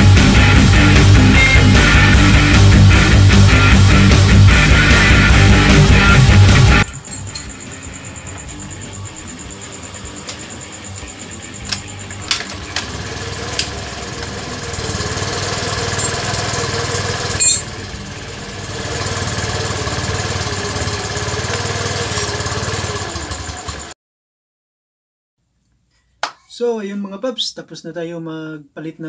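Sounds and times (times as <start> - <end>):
scooter engine running: 0.0 - 7.0, 7.6 - 23.9.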